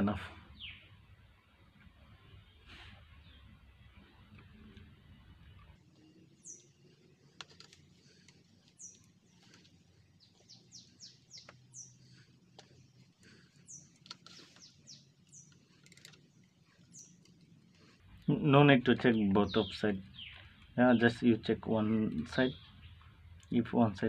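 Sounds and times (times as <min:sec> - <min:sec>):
faint bird chirps: 0:00.5 - 0:01.0, 0:02.1 - 0:23.6.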